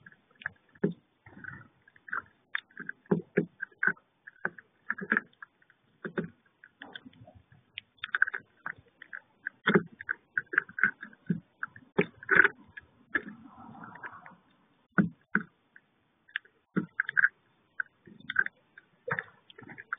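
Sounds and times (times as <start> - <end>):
birds pecking and cracking seeds: 0.0 - 19.9.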